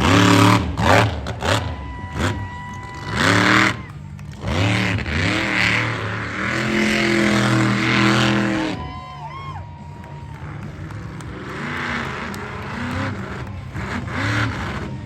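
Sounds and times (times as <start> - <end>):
engine revving: 0.0 - 9.1, 9.8 - 15.0.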